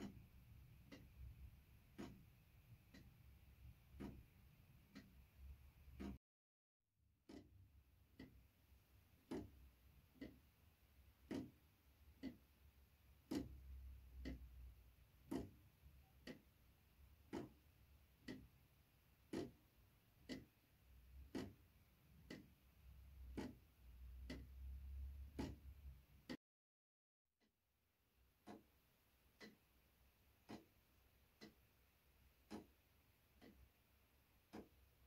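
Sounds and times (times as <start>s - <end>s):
faint clock ticking: 0.0s - 6.2s, 7.2s - 26.4s, 28.2s - 35.0s.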